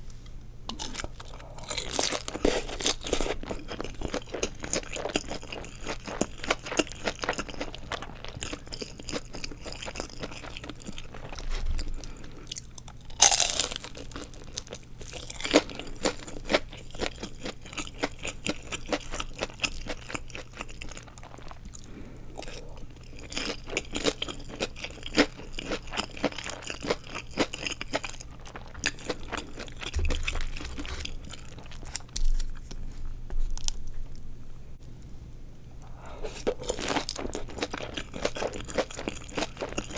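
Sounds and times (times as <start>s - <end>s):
crunchy food chewing: 0.7s - 34.3s, 35.8s - 39.9s.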